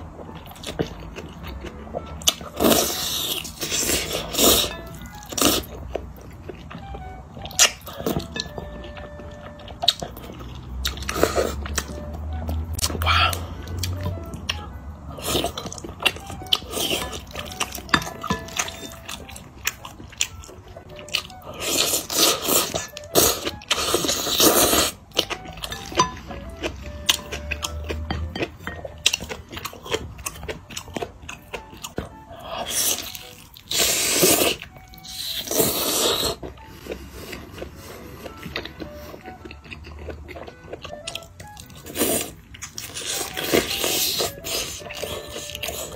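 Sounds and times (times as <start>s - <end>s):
wet chewing and smacking: 0.0s - 45.9s.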